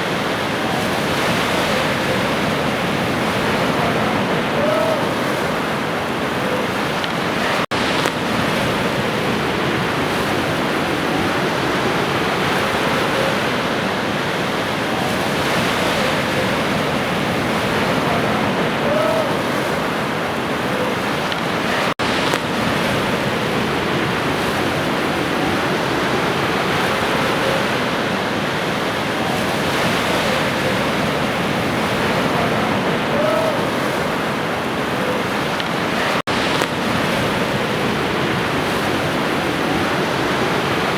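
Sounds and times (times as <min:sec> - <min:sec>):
ocean surf washing: 0:00.0 - 0:40.9.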